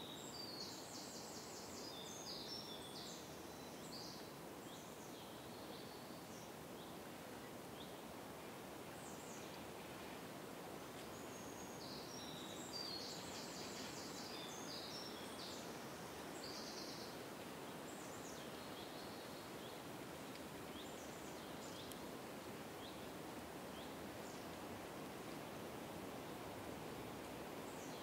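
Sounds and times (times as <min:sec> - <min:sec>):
wind through trees: 0:00.0 - 0:28.0.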